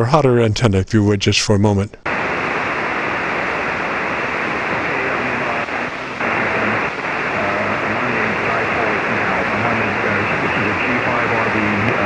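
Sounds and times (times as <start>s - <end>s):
radio static hiss: 2.0s - 12.0s.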